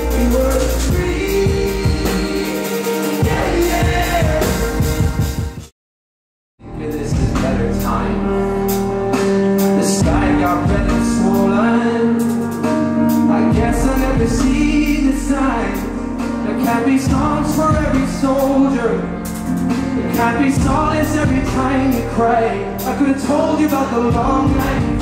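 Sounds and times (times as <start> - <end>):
man singing into a microphone: 0.0 - 4.8, 6.7 - 25.0
band accompaniment: 0.0 - 5.7, 6.6 - 25.0.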